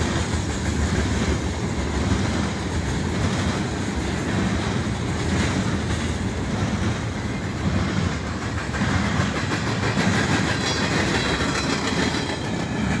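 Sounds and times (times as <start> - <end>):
steel wheels running on rails: 0.0 - 13.0.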